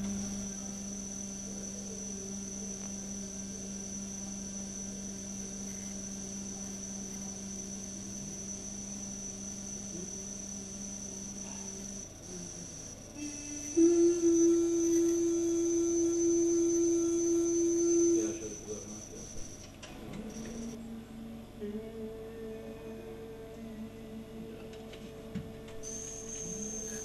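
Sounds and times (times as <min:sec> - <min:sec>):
faint high-pitched whine: 0:00.0 - 0:27.0.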